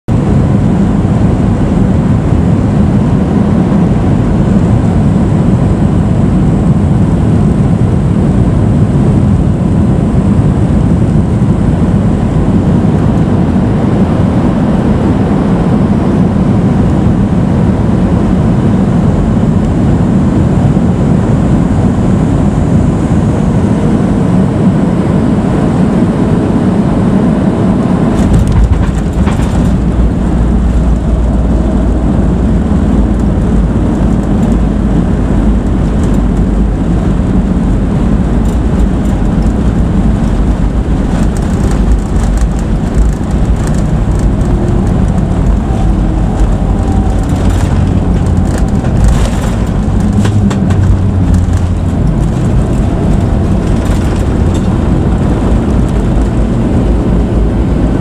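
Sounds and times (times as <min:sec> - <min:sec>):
deep rumble: 0:00.0 - 0:58.0
airflow and jet engine noise: 0:00.1 - 0:58.0.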